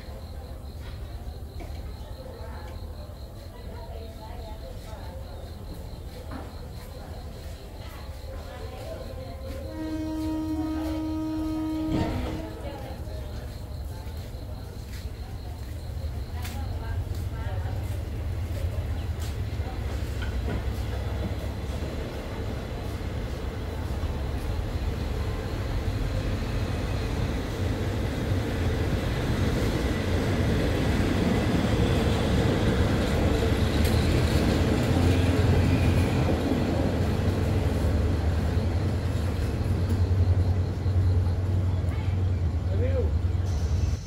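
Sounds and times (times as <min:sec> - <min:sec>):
train carriages rumbling on rails: 0:00.0 - 0:44.0.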